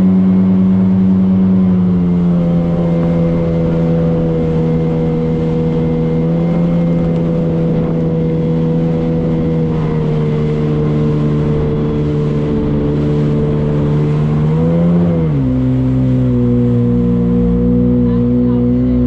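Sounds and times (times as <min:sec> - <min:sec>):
motorboat engine droning: 0:00.0 - 0:19.0.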